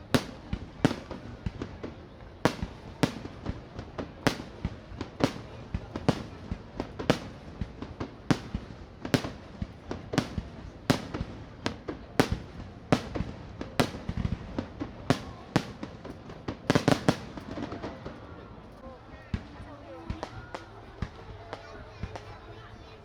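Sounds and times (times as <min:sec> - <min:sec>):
fireworks bursting with bangs: 0:00.0 - 0:18.5.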